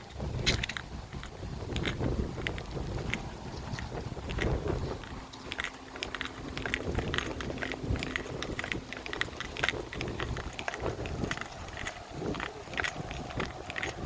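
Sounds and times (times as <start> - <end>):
light sharp clicks and crackles: 0.0 - 14.0
wind rumbling on microphone: 0.0 - 14.0.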